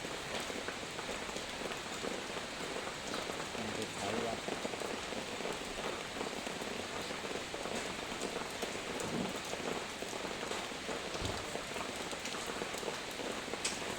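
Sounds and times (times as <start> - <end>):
heavy rain falling: 0.0 - 13.9.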